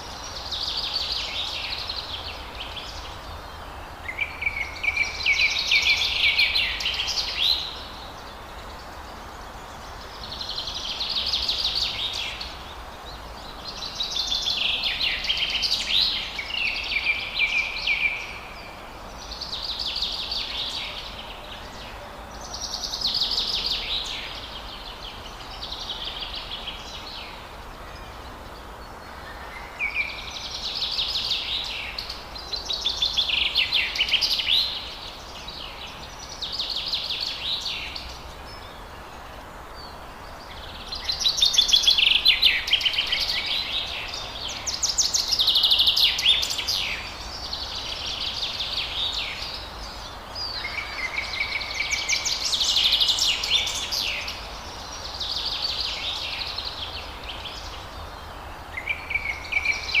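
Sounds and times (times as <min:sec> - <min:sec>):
steady background hiss: 0:00.0 - 1:00.0.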